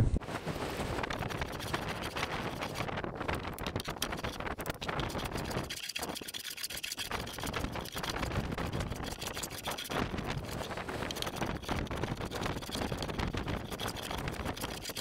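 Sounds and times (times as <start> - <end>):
hand plane cutting wood: 1.1 - 2.8, 3.7 - 15.0.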